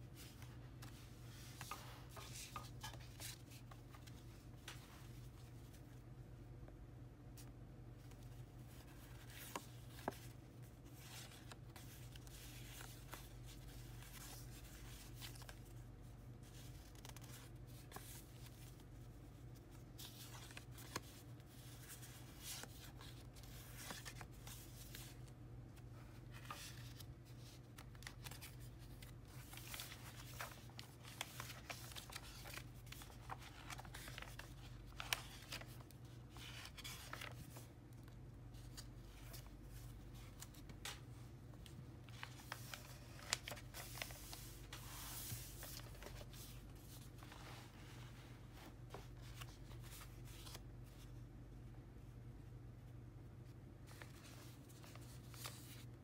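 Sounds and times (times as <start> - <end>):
paper cards rustling: 0.1 - 6.1, 7.4 - 51.1, 53.8 - 56.0.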